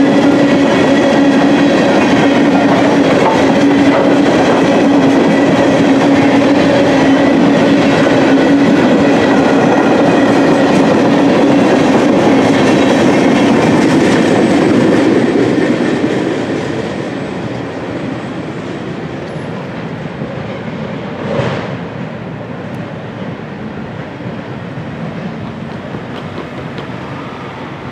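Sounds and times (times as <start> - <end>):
train wheels clattering on rails: 0.0 - 27.6.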